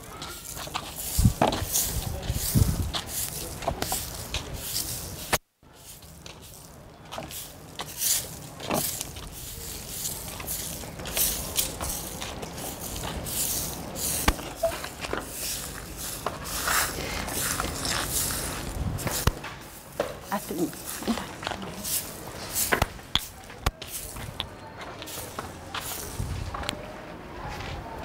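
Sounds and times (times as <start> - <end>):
hand broom sweeping dirt: 0.0 - 26.6.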